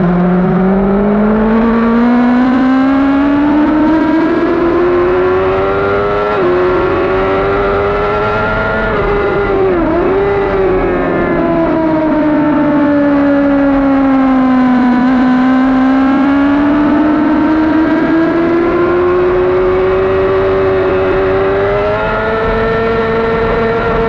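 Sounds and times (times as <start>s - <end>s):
motorcycle engine revving hard: 0.0s - 24.0s
wind rushing over microphone: 0.0s - 24.0s.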